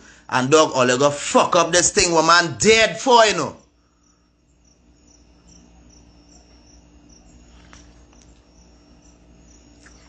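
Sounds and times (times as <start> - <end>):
cricket chirping: 0.0 - 10.0
faint low hum: 0.0 - 10.0.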